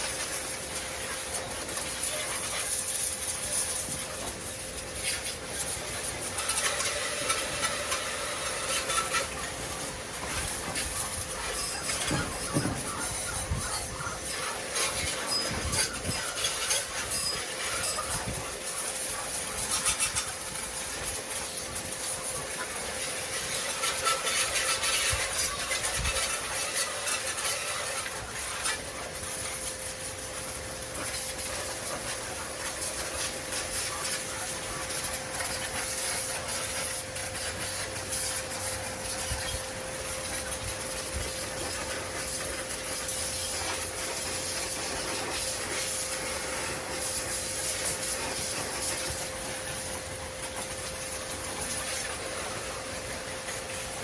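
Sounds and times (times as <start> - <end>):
water jet spraying: 0.0 - 54.0.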